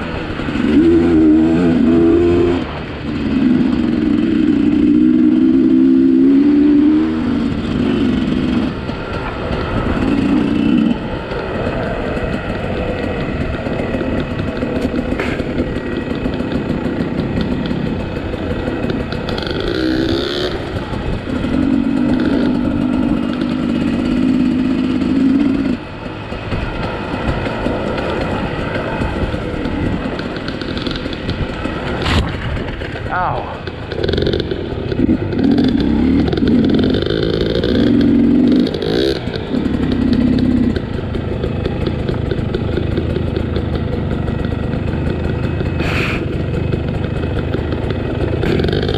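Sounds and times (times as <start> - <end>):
bike rattling over rough ground: 0.0 - 48.9
dirt bike engine revving: 0.0 - 48.9.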